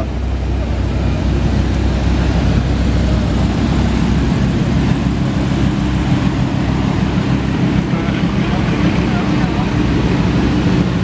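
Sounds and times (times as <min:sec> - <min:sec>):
car engine idling: 0:00.0 - 0:11.0
sports car engine low revs: 0:00.0 - 0:11.0.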